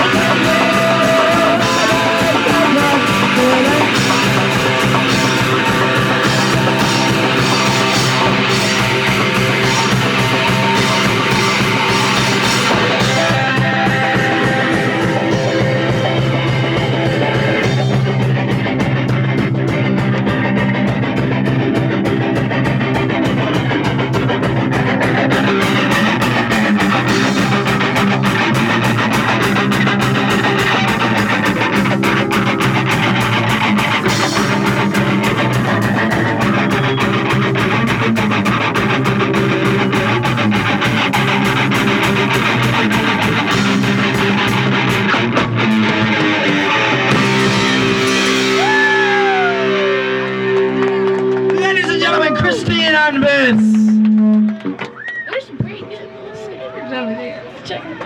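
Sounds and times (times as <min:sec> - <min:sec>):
drum kit: 0:00.0 - 0:55.0
electric guitar: 0:00.0 - 0:55.8
live punk rock band: 0:00.0 - 0:58.0.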